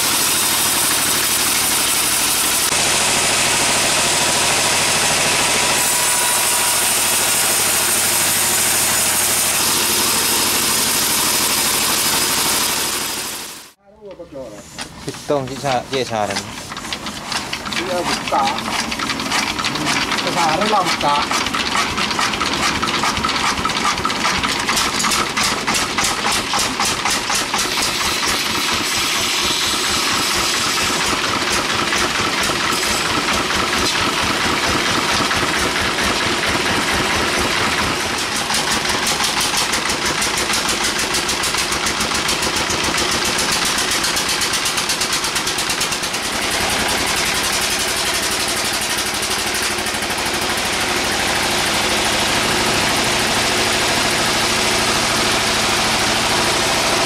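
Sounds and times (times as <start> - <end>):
machinery engine running: 0.0 - 57.0.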